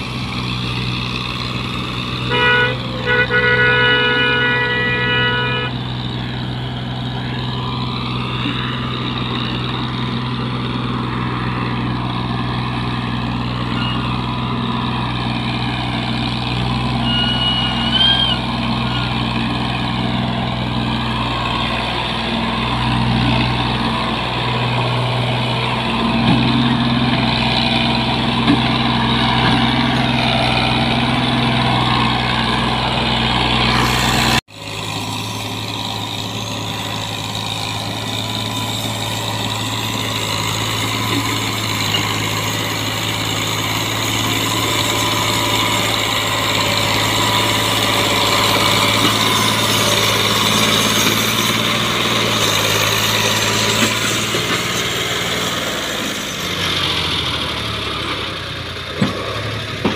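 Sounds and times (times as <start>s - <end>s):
diesel tractor engine under load: 0.0s - 59.9s.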